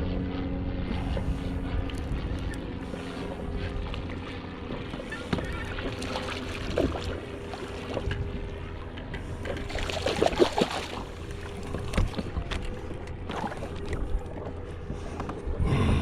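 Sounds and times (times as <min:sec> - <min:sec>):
water splashing against kayak hull: 0:01.8 - 0:15.5.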